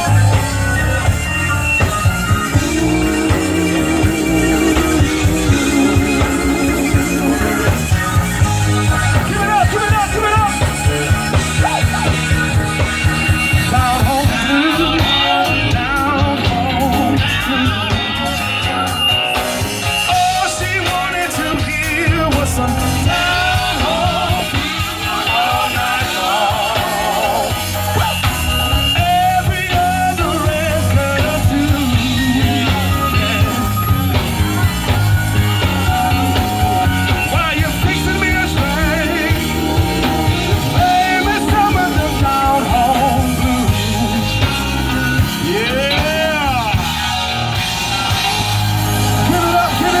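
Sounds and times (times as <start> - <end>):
drum and bass groove: 0.0 - 50.0
live blues band: 0.0 - 50.0
wavering lead melody: 0.0 - 50.0.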